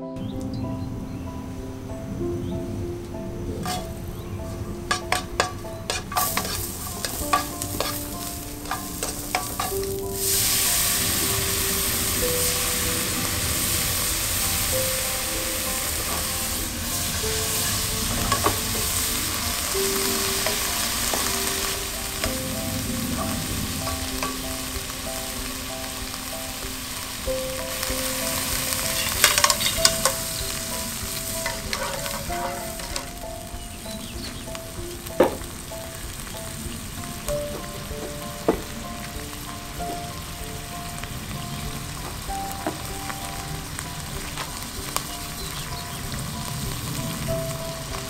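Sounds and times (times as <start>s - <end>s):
soft background melody: 0.0s - 48.0s
onion sizzling in hot oil: 3.6s - 48.0s.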